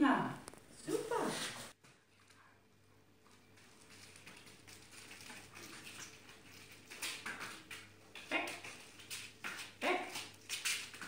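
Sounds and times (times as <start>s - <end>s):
faint shuffling: 0.4s - 11.0s.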